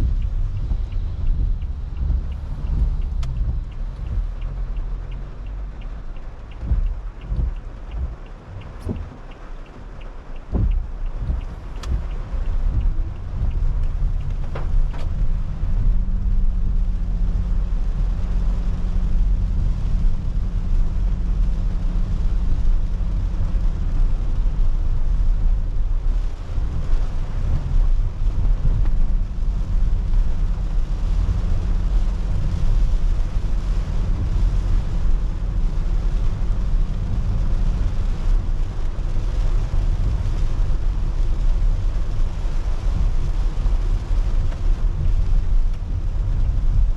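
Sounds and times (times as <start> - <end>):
hiss of rain and spray: 0.0 - 46.9
tyres rumbling on wet road: 0.0 - 46.9.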